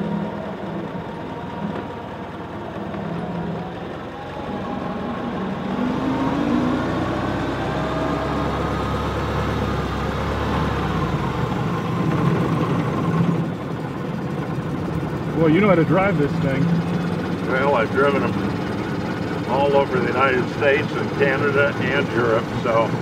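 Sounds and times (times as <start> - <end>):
old truck engine running: 0.0 - 23.0.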